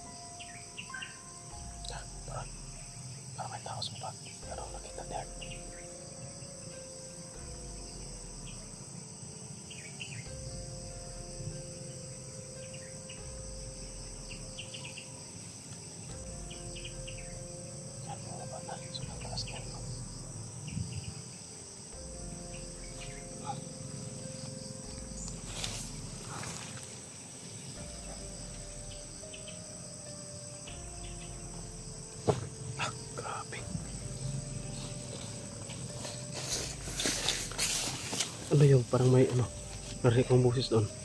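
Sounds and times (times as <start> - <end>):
insect chirps: 0.0 - 41.0
insects droning: 0.0 - 41.0.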